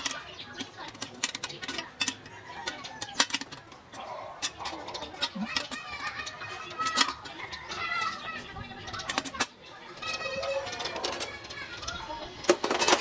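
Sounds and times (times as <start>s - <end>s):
grill pan clicking and knocking: 0.0s - 13.0s.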